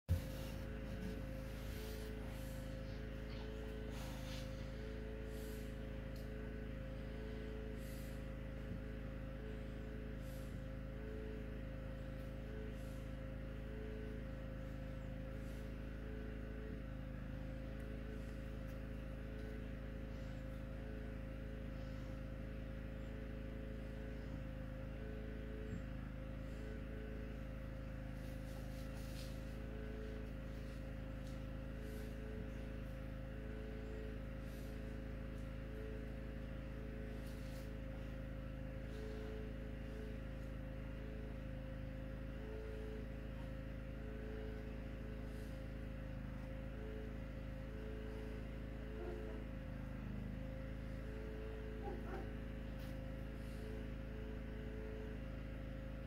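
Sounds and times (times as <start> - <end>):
low background hum: 0.1 - 56.0
thin whine: 0.1 - 56.0.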